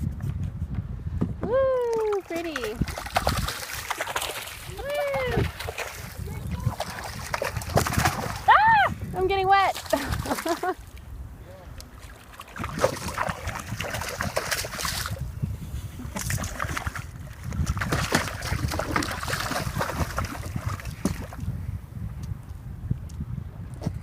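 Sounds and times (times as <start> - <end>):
water splashing against a kayak: 1.7 - 22.1.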